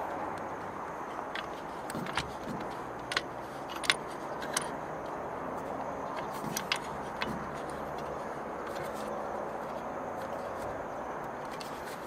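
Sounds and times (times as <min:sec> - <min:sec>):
bolts clicking and tapping: 0:00.0 - 0:12.0.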